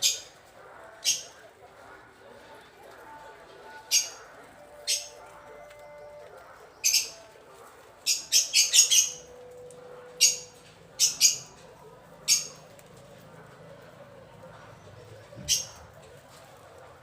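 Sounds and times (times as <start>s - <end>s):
guinea pigs squeaking: 0.0s - 17.0s.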